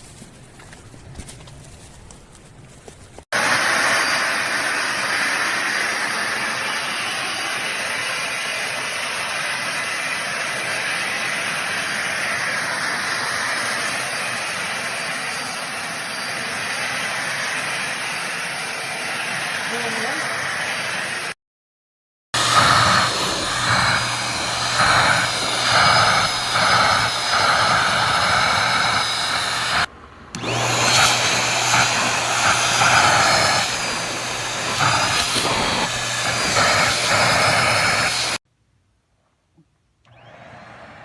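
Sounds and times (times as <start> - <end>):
stick vacuum cleaner running: 3.3 - 21.4, 22.4 - 38.4.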